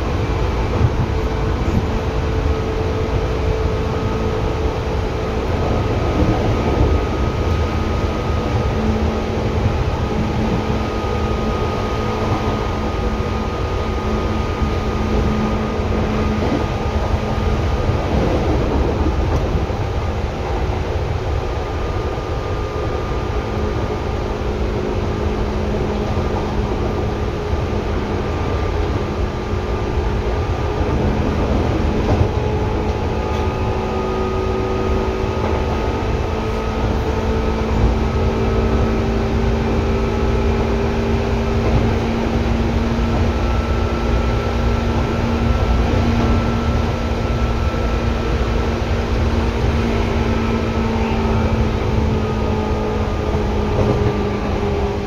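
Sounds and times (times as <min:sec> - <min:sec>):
droning equipment tones: 0:00.0 - 0:55.0
train rolling rumble: 0:00.0 - 0:55.0.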